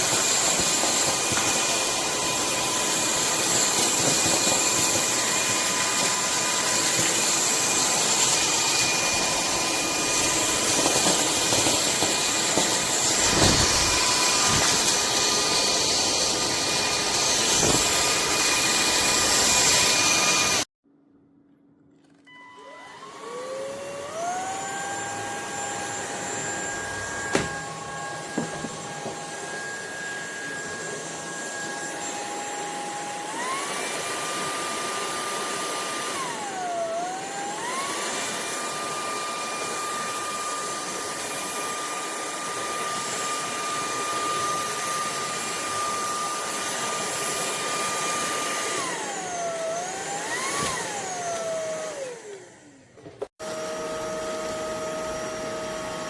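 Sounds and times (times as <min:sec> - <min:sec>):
stick vacuum running: 0:00.0 - 0:20.7, 0:22.6 - 0:56.0.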